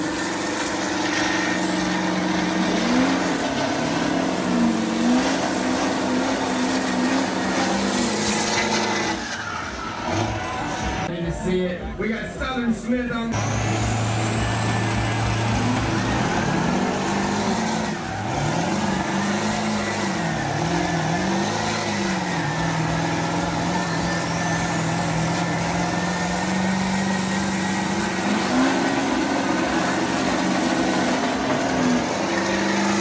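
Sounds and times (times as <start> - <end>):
truck engines revving hard: 0.0 - 11.1, 13.3 - 33.0.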